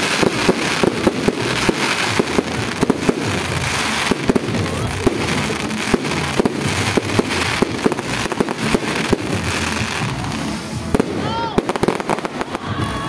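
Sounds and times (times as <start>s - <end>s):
fireworks banging: 0.0s - 13.0s
steady rush of noise: 0.0s - 13.0s.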